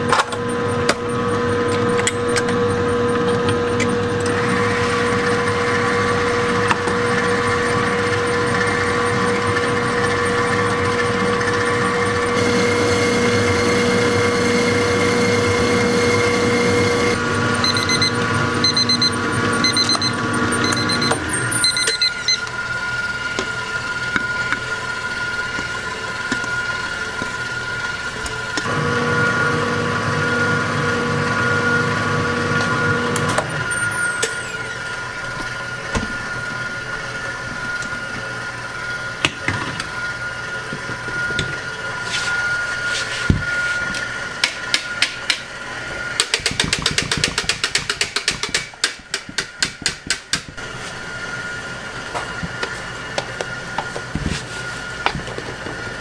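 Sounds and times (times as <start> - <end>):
stand mixer motor whine: 0.0 - 56.0.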